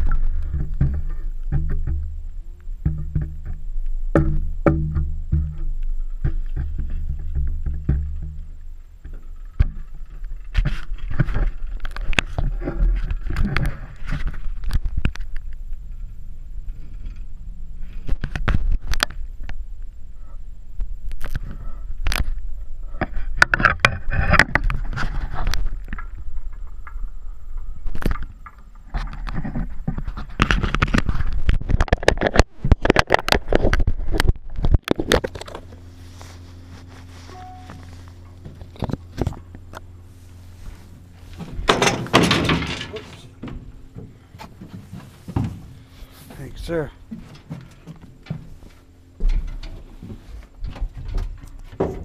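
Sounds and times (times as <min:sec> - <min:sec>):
low underwater hum: 0:00.0 - 0:52.0
low uneven rumble: 0:00.0 - 0:52.0.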